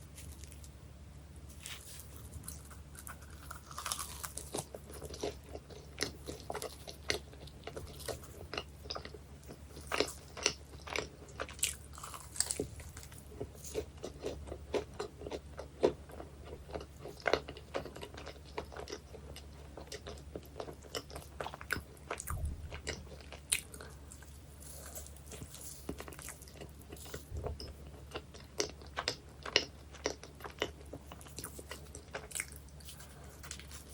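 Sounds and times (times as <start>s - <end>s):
pie crust crunching while chewing: 0.0s - 0.8s, 1.4s - 33.9s.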